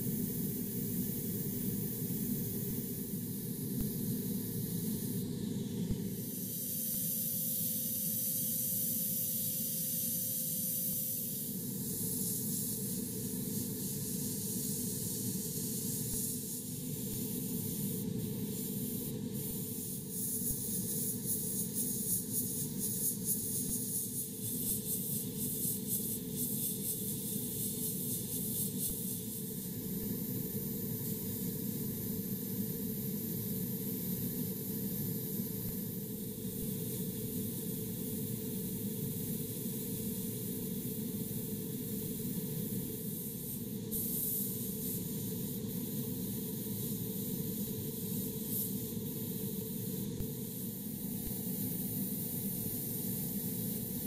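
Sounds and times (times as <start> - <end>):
airbrush spraying hiss: 0.0 - 10.2, 10.8 - 54.0.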